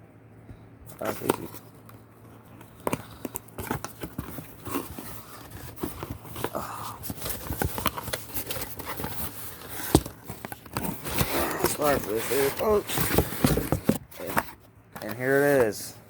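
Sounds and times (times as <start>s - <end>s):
packaging scraping and rustling: 0.9s - 16.0s.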